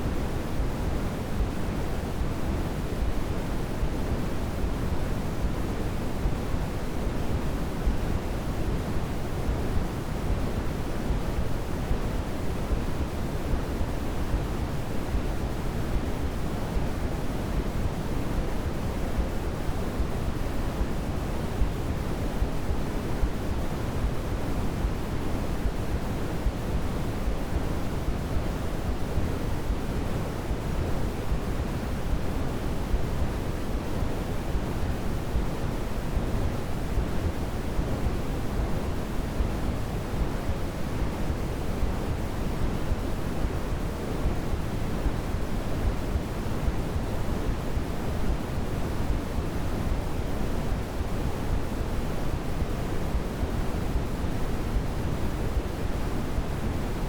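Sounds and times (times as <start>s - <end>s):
low constant hiss noise: 0.0s - 57.0s.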